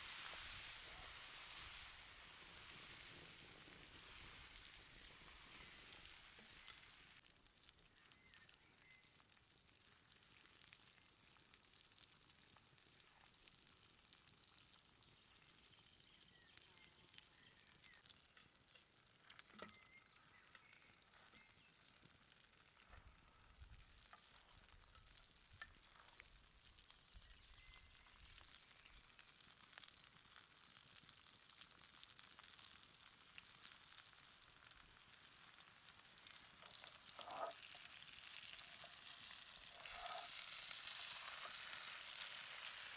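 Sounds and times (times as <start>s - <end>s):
steak sizzling over campfire: 0.0s - 42.9s.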